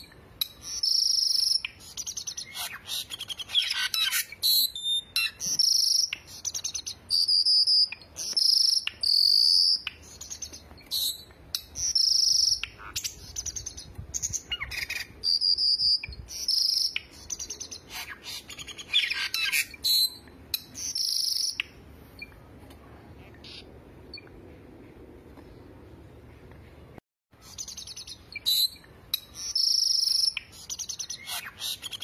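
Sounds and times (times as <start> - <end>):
birds whistling: 0.0 - 22.4, 27.4 - 32.0.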